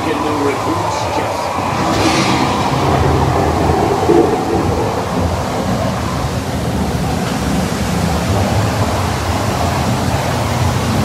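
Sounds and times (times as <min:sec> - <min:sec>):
water rushing with low rumble: 0:00.0 - 0:11.0.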